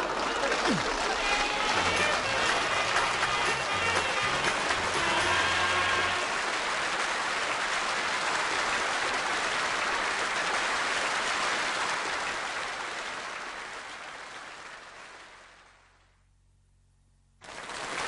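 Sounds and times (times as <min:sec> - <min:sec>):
studio audience applauding: 0:00.0 - 0:16.0, 0:17.4 - 0:18.0.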